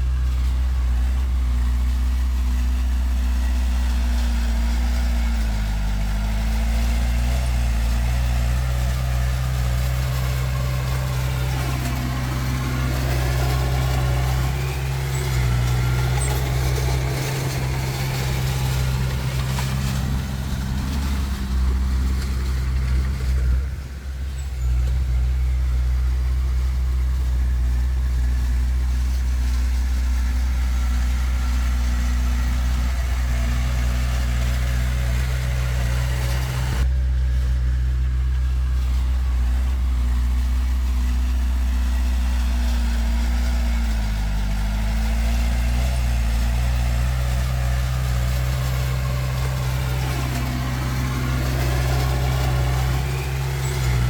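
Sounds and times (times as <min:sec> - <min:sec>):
heavy diesel engines running: 0:00.0 - 0:54.0
second engine rising and falling: 0:00.0 - 0:54.0.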